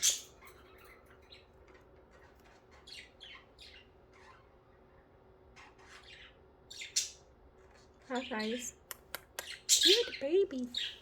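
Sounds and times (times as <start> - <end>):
budgerigars chirping: 0.0 - 4.9, 5.5 - 11.0.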